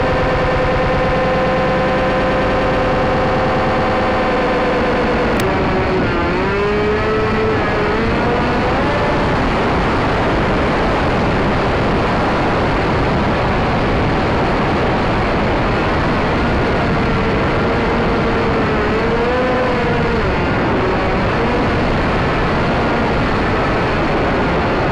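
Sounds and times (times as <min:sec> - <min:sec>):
electric motor and propeller whining: 0:00.0 - 0:12.5, 0:13.4 - 0:24.9
wind rush on microphone: 0:00.0 - 0:24.9.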